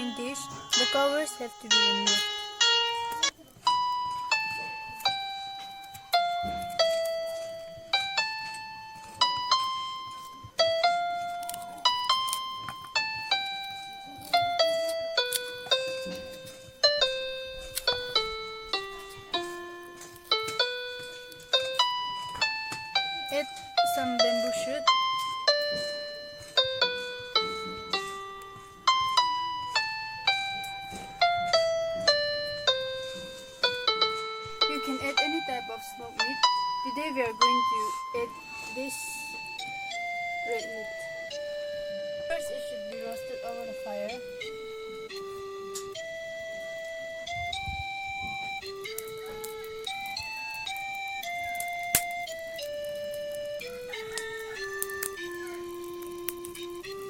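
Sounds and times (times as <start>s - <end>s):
slow keyboard melody: 0.0s - 57.0s.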